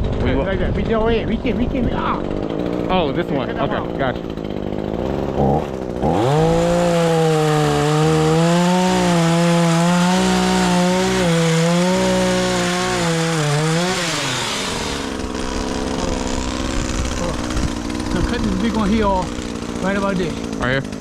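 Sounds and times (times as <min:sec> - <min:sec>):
chainsaw revving and cutting: 0:00.0 - 0:21.0.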